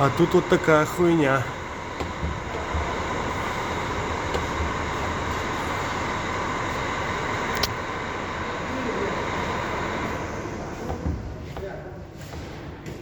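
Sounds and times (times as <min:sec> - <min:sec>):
mechanical rumble and hum: 0:00.0 - 0:13.0.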